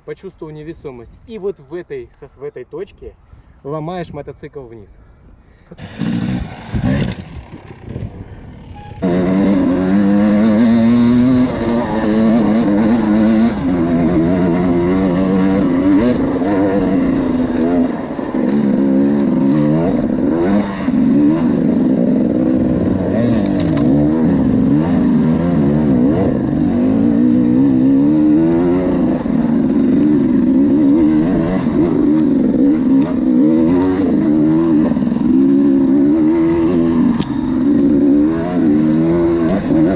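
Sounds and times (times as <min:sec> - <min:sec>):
motorcycle engine revving: 0:05.8 - 0:39.9.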